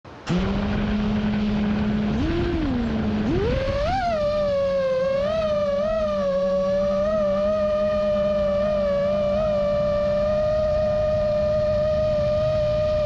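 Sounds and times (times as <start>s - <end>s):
quadcopter motors whining: 0.2s - 13.0s.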